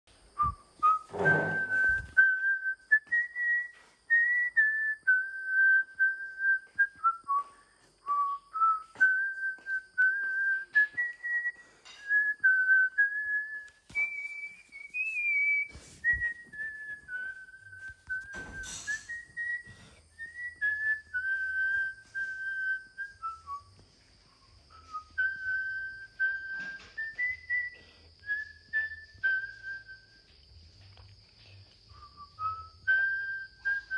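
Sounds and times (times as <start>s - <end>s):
person whistling a slow tune: 0.3s - 33.9s.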